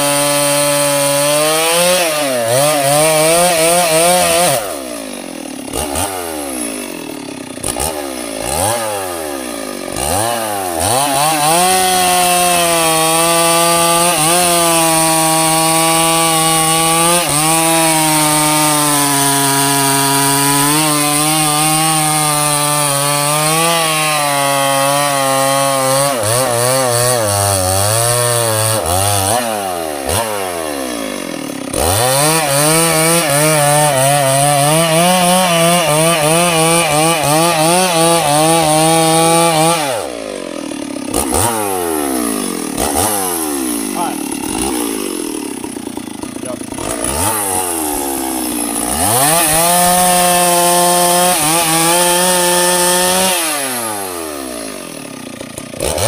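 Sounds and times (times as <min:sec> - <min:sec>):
chainsaw revving and cutting: 0:00.0 - 0:56.0.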